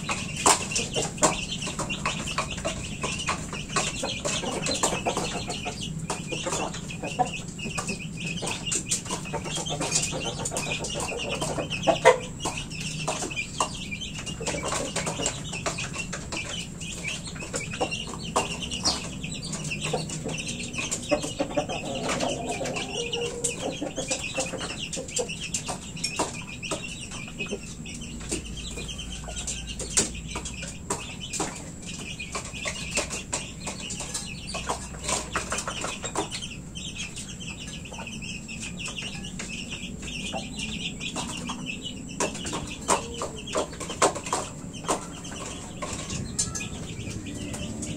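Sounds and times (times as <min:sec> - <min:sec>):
chickens clucking: 0:00.0 - 0:47.9
chicks peeping: 0:00.0 - 0:47.9.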